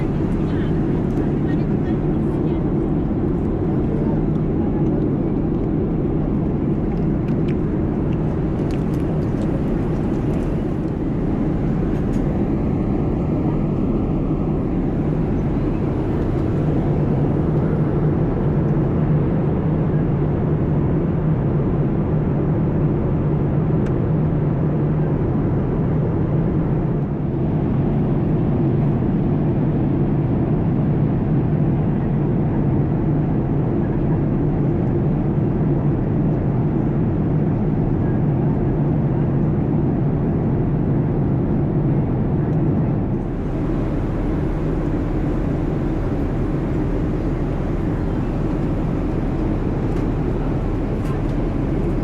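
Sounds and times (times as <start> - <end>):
airplane cabin engine rumble: 0.0 - 52.0.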